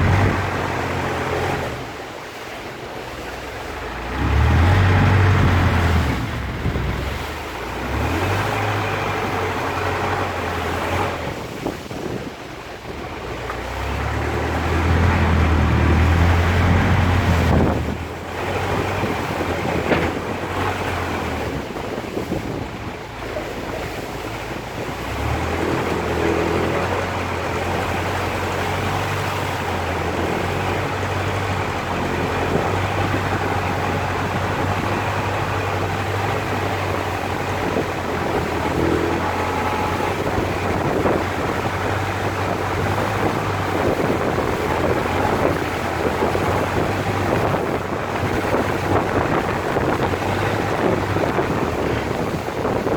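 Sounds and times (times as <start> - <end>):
boat engine running: 0.0 - 52.9
rushing water: 0.0 - 52.9
wind buffeting microphone: 0.0 - 52.9.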